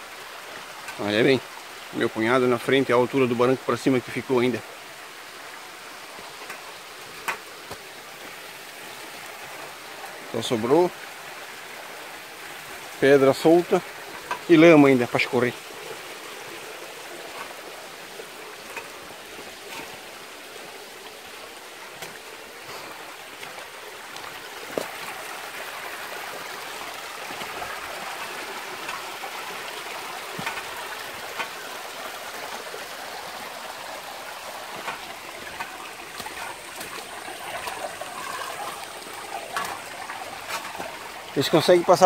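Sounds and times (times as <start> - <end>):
water running over stones: 0.0 - 42.0.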